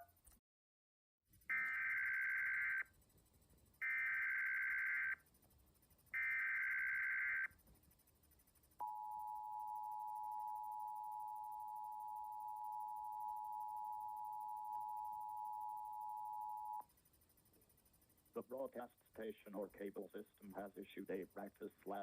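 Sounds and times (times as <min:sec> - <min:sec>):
buzzy data tone bursts: 0:01.4 - 0:03.0, 0:03.7 - 0:22.0.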